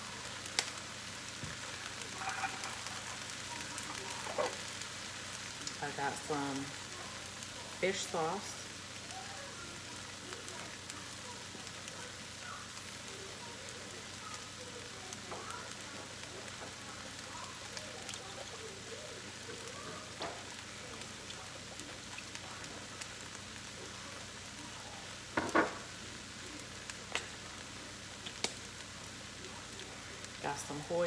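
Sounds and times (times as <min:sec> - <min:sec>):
food sizzling in a wok: 0:00.0 - 0:31.0.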